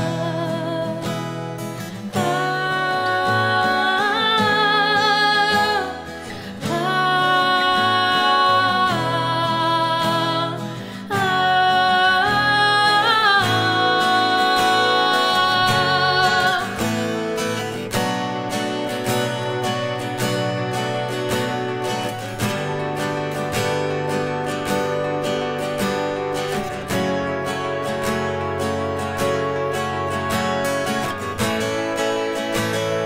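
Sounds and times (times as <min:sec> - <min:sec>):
acoustic guitar: 0:00.0 - 0:33.0.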